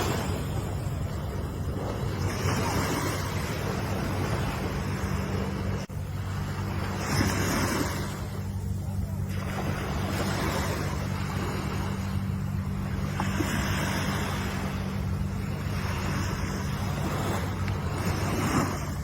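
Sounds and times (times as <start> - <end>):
ocean waves washing in: 0.0 - 19.0
steady low rumble: 0.0 - 19.0.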